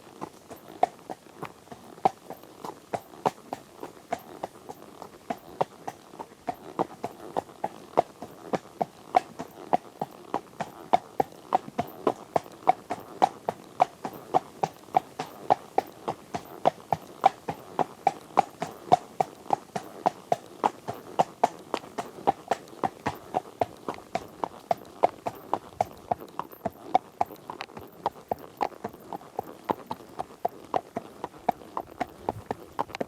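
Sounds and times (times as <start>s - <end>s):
horse hooves clip-clopping: 0.0s - 33.0s.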